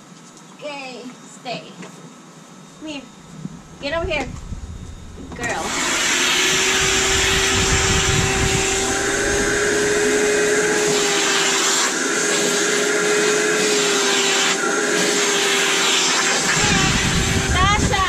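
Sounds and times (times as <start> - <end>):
vacuum cleaner running: 1.8 - 18.0.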